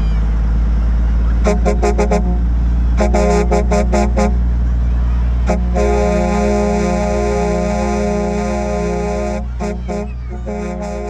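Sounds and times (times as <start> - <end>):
low engine hum: 0.0 - 11.0
truck air horn honking: 1.3 - 11.0.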